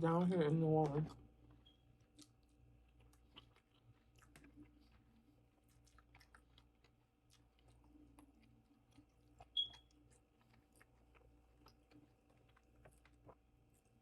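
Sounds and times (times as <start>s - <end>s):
chewing and wet mouth clicks: 0.8s - 14.0s.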